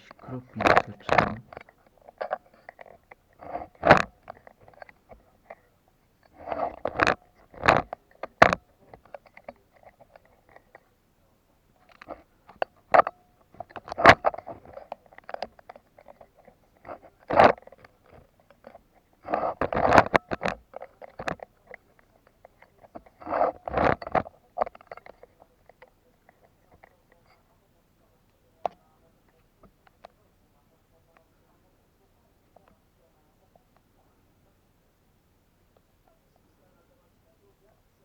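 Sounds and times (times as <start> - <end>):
crackling and scraping on microphone: 0.0 - 11.0, 11.7 - 31.6.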